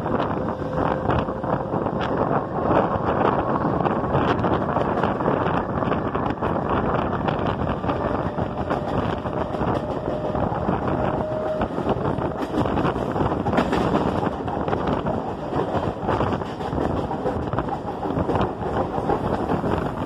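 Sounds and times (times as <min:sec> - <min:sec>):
train wheels rumbling on track: 0:00.0 - 0:20.0
wind buffeting microphone: 0:00.0 - 0:20.0.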